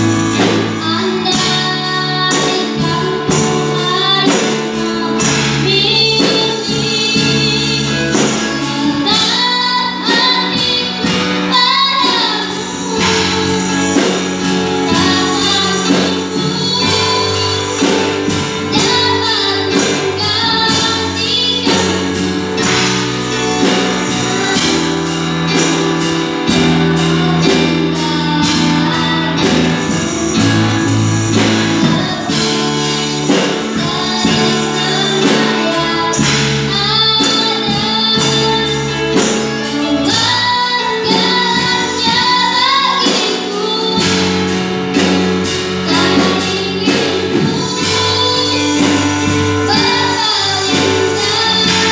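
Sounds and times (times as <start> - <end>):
instrumental accompaniment: 0.0 - 51.9
person singing: 0.0 - 51.9.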